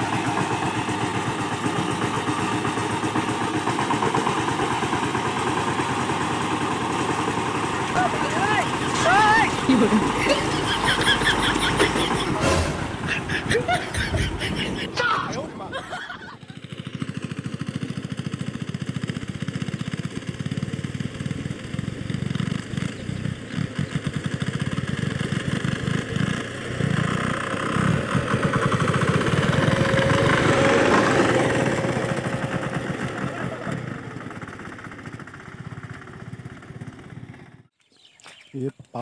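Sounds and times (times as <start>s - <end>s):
diesel tiller engine knocking: 0.0s - 37.7s.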